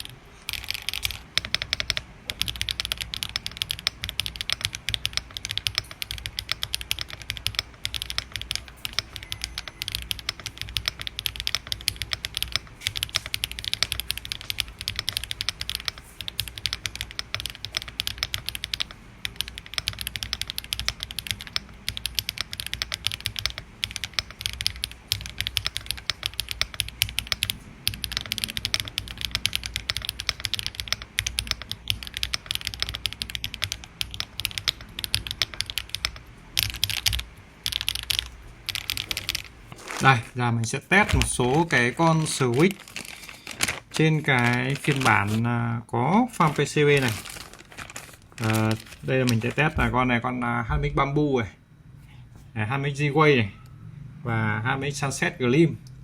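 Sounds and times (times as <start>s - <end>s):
mechanical keyboard typing: 0.0s - 40.3s, 40.9s - 45.4s, 46.4s - 50.0s.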